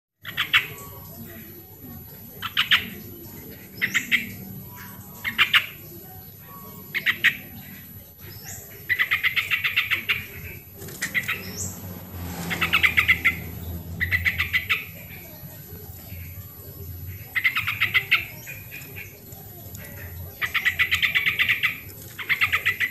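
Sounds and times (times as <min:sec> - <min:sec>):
bird singing chattering phrases: 0:00.2 - 0:22.9.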